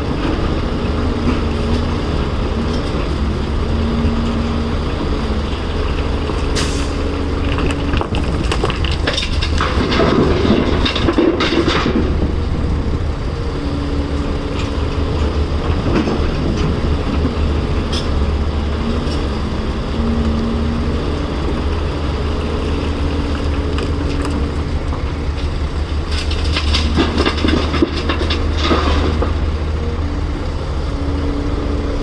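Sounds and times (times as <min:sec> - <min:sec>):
excavator diesel engine running: 0:00.0 - 0:32.0
rock and dirt clattering: 0:00.0 - 0:32.0.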